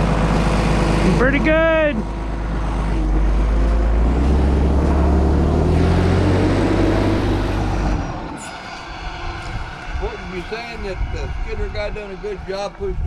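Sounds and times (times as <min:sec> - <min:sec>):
diesel engine under load: 0:00.0 - 0:13.0.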